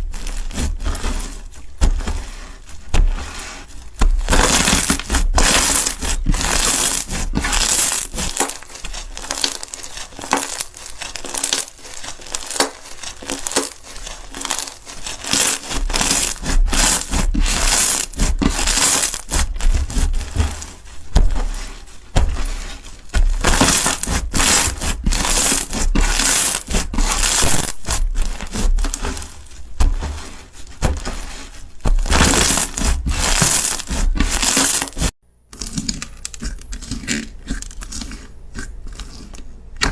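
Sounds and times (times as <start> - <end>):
slime crackling and crunching: 0.0 - 39.9.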